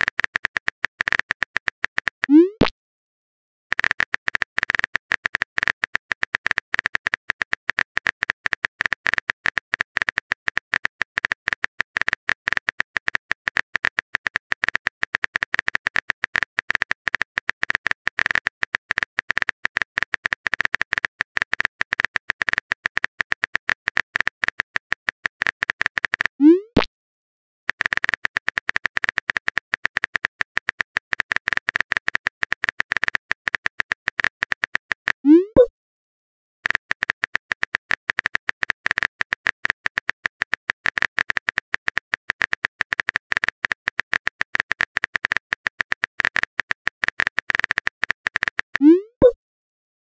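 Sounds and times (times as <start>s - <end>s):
keyboard-like typing clicks: 0.0s - 2.7s, 3.7s - 26.9s, 27.7s - 35.7s, 36.6s - 49.4s.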